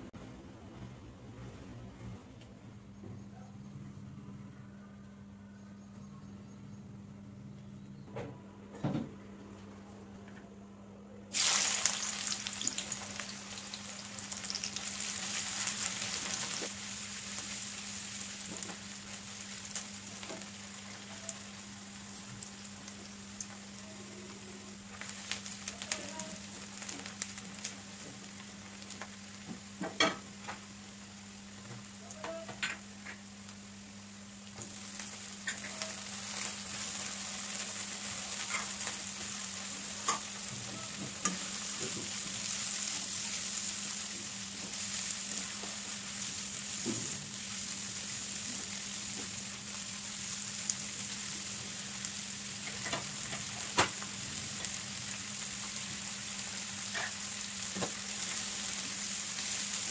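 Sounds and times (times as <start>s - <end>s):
onions sizzling in oil: 11.3s - 59.9s.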